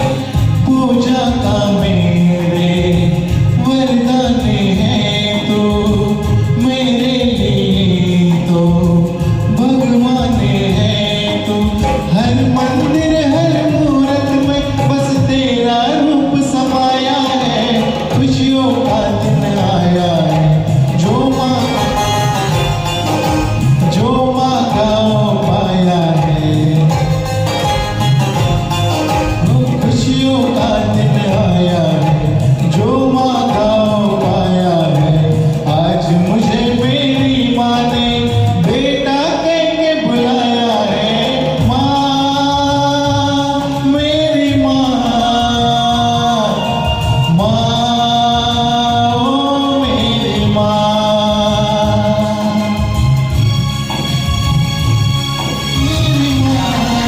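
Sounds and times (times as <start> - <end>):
karaoke backing track: 0.0 - 57.0
man singing: 0.0 - 57.0.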